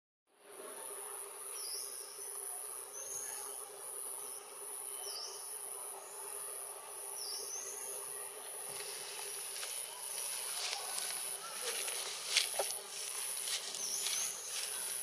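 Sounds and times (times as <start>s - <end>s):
high-pitched insect drone: 0.7s - 15.0s.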